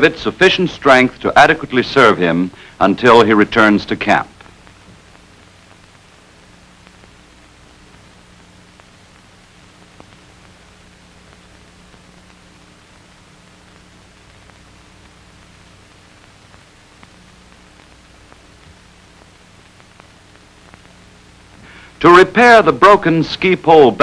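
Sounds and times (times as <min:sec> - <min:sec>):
film soundtrack hiss and hum: 0:00.0 - 0:24.0
faint clicks and crackles: 0:03.9 - 0:24.0.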